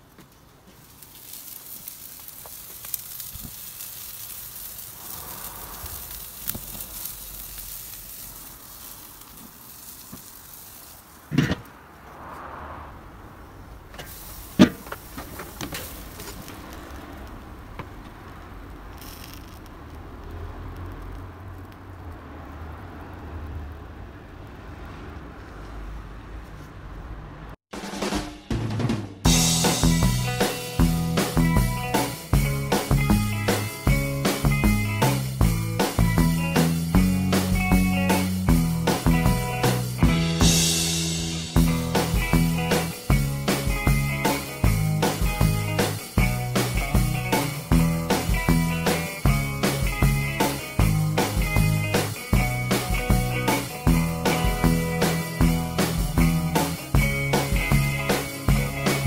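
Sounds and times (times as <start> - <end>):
steak sizzling on a grill: 0.6 - 11.4, 14.0 - 22.3, 29.3 - 59.0.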